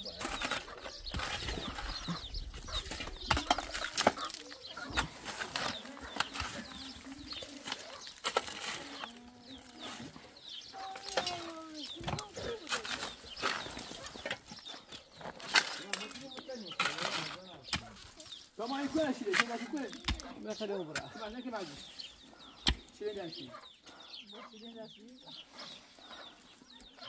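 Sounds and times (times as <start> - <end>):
shovels scraping gravelly earth: 0.0 - 23.4, 25.4 - 26.6.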